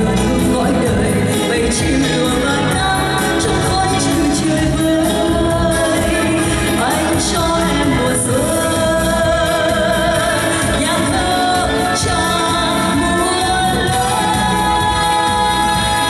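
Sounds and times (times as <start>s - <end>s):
woman singing into a microphone: 0.0s - 16.0s.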